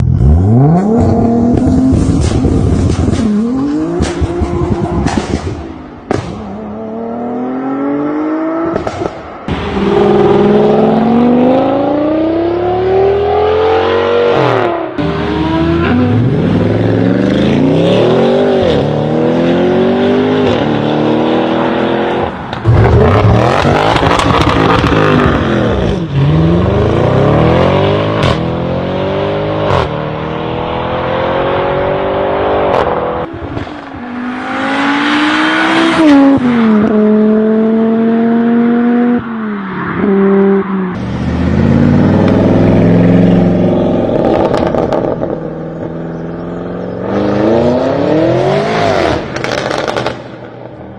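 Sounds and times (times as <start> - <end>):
car engines accelerating hard: 0.0 - 50.8.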